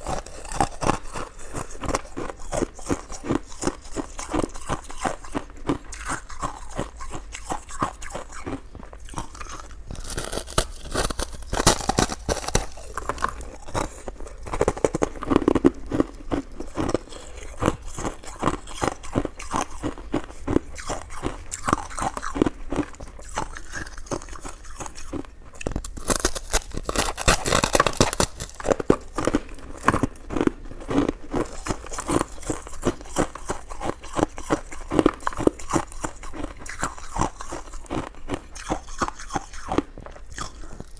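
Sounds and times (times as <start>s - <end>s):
chewing sticky rice cake: 0.0s - 40.9s.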